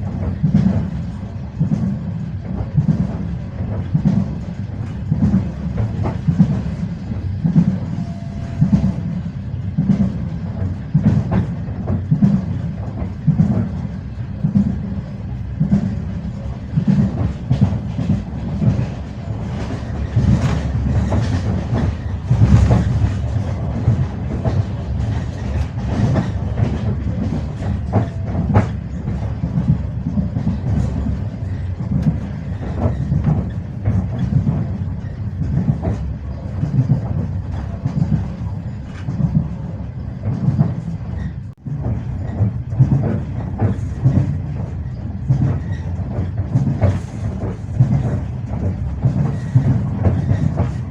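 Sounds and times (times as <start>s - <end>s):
train rumbling: 0.0s - 50.9s
train wheels clickety-clack: 0.0s - 50.9s.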